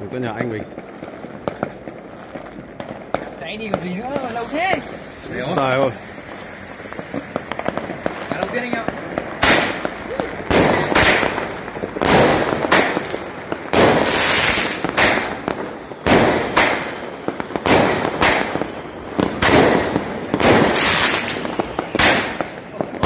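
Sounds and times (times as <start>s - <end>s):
fireworks bangs: 0.0s - 23.0s
firework shells hissing: 0.7s - 23.0s.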